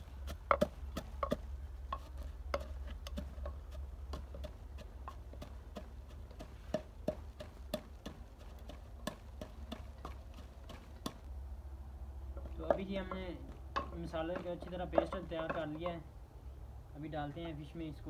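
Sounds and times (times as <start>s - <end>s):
pestle pounding in wooden mortar: 0.0s - 11.3s, 12.4s - 16.0s.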